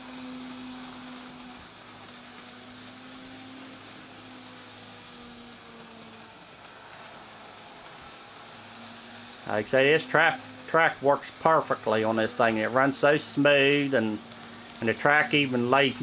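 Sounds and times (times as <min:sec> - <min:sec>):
model train motor hum: 0:00.0 - 0:16.0
train rolling on track hiss: 0:00.0 - 0:16.0.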